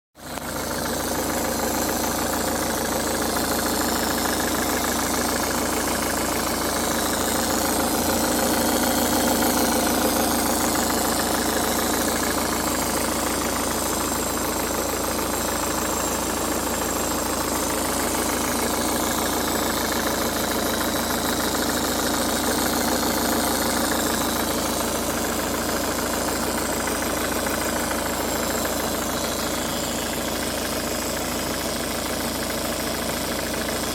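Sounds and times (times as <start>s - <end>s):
abnormal engine noise: 0.2s - 33.9s
car engine idling: 0.2s - 33.9s.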